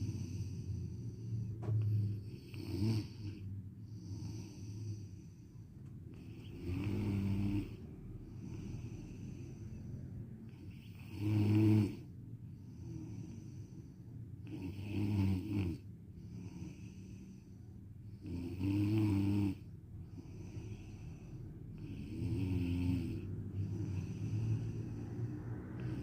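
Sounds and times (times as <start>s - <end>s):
person snoring: 0.0s - 5.4s, 6.1s - 17.5s, 18.1s - 26.0s.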